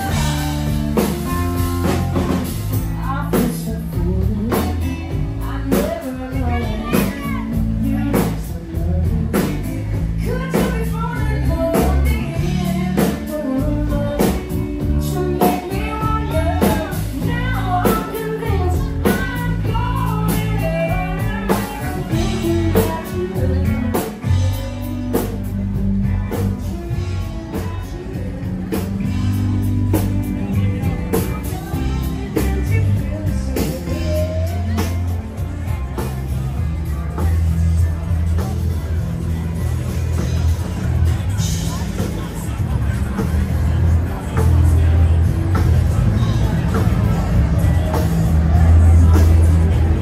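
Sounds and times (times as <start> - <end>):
person singing: 0.0 - 50.0
rock band music: 0.0 - 50.0
steady drum beat: 0.0 - 50.0.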